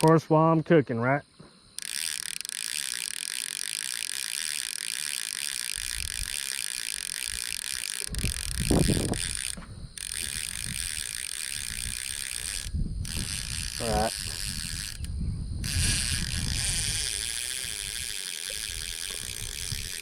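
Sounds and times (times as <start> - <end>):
fishing reel clicking: 0.0 - 0.2, 1.8 - 20.0.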